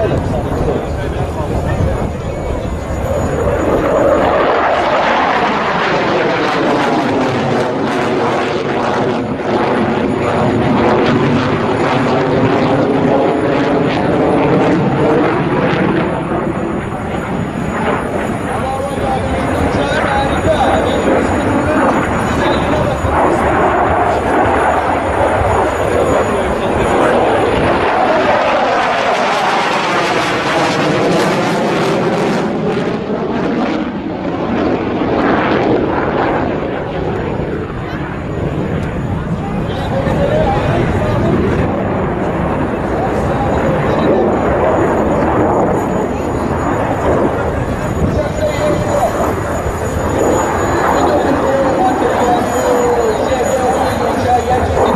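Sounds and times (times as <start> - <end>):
jet engine roaring: 0.0 - 54.9.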